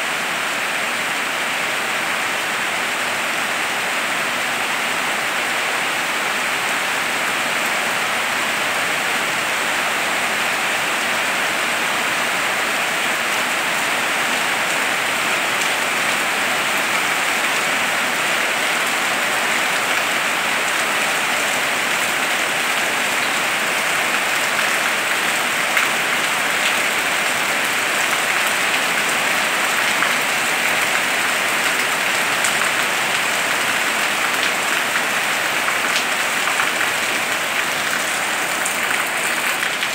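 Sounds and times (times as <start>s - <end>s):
heavy rain on roofs and trees: 0.0s - 39.9s.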